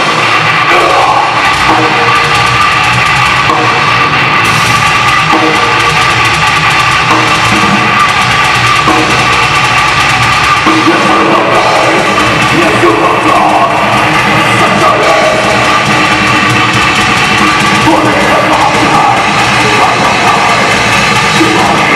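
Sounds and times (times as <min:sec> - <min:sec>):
distorted guitars: 0:00.0 - 0:21.9
fast drum kit: 0:00.0 - 0:21.9.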